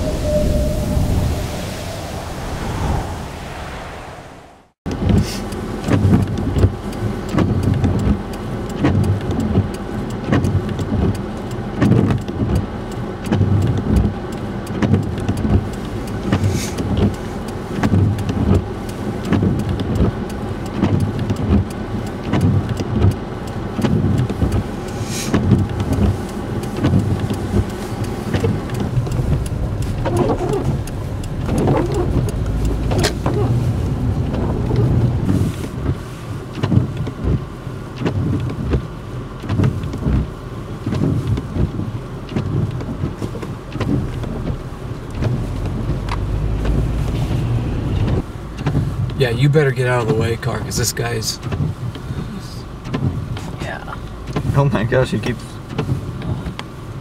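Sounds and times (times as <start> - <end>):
vehicle engines running: 0.0 - 36.4, 41.2 - 57.0.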